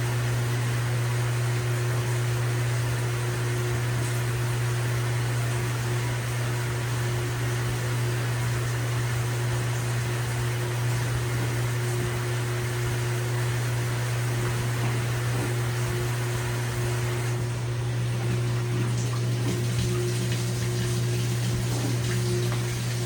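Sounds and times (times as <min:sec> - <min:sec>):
washing machine low hum: 0:00.0 - 0:23.0
water moving in washing machine: 0:00.0 - 0:23.0.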